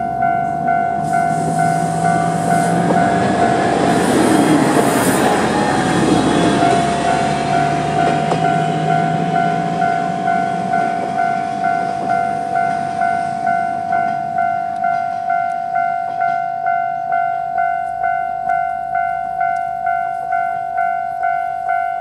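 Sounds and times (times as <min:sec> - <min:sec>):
level crossing warning bell: 0:00.0 - 0:22.0
train rumble: 0:00.0 - 0:22.0.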